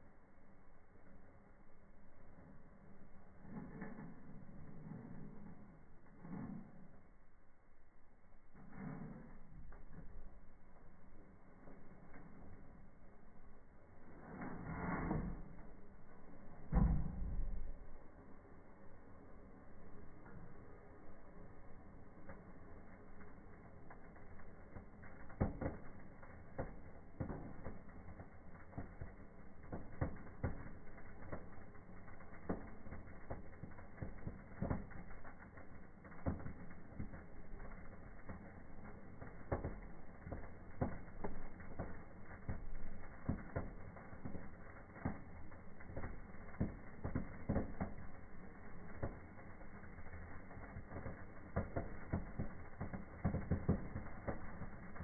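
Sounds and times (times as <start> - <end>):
crackles and pops: 0.0 - 55.0
firework fountains burning: 0.0 - 55.0.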